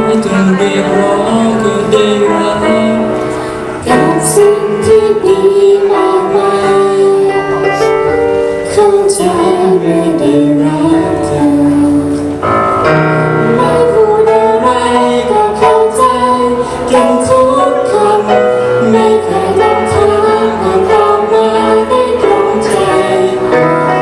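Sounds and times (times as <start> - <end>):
live band playing: 0.0 - 24.0
person singing: 0.0 - 24.0.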